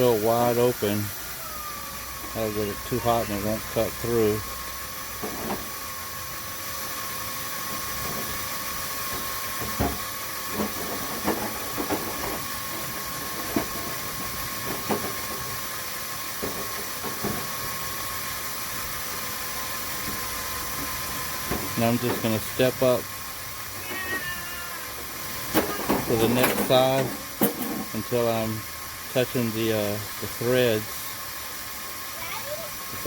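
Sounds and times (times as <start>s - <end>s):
electric drill cutting steel: 0.0s - 27.3s.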